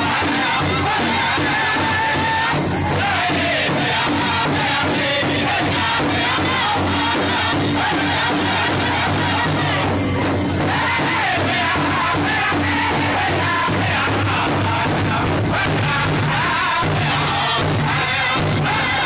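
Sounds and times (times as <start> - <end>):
group singing in unison: 0.0 - 19.0
large drum steady beat: 0.0 - 19.0.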